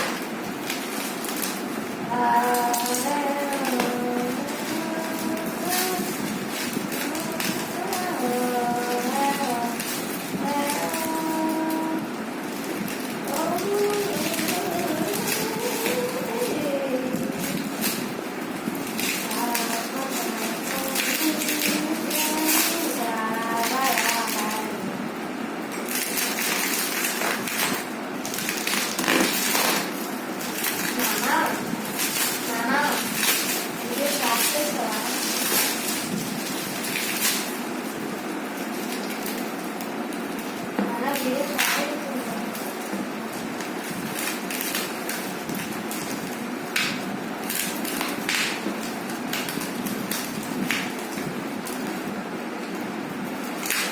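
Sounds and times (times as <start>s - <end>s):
packaging rustling and scraping: 0.0s - 24.9s, 25.6s - 53.9s
packaging crackles: 0.0s - 53.9s.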